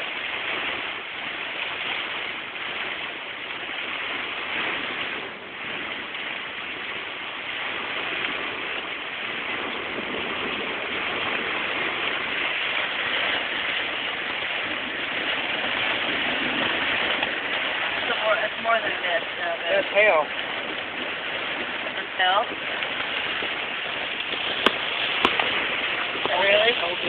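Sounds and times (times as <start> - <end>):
heavy rain: 0.0 - 27.0
wind: 0.0 - 27.0.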